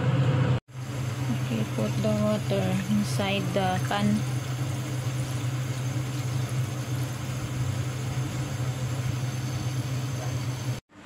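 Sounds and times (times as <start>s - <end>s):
low mechanical hum: 0.0s - 11.0s
water pouring into a pot: 0.7s - 10.8s.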